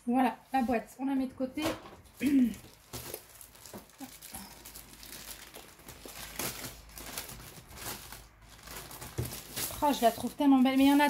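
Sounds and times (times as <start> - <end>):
plastic wrapping crinkling: 2.0 - 11.0.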